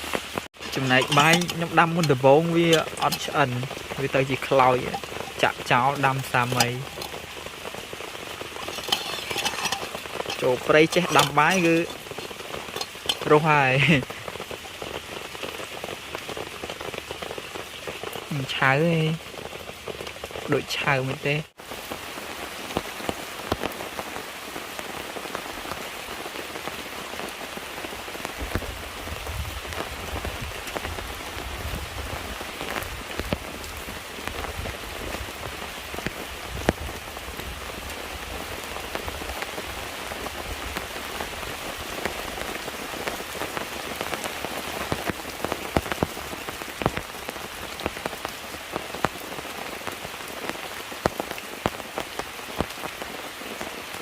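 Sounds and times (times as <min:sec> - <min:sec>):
raindrops striking close by: 0:00.0 - 0:54.0
steady rain falling: 0:00.0 - 0:54.0.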